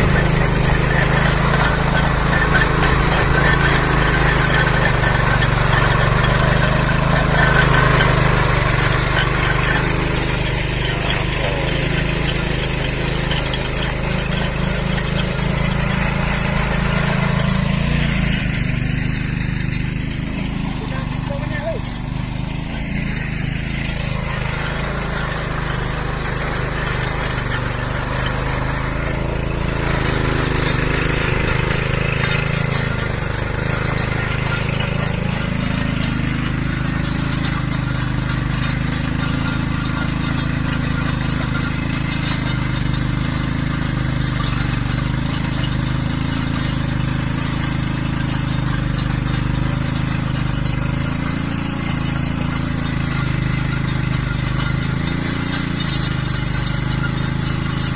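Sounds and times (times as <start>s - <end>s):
cultivator engine running: 0.0s - 57.9s
hissing rattling soil: 0.0s - 57.9s.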